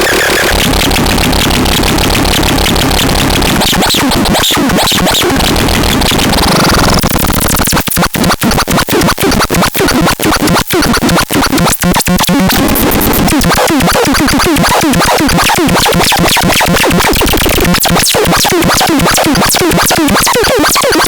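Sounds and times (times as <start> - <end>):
loud electronic music: 0.0 - 21.0.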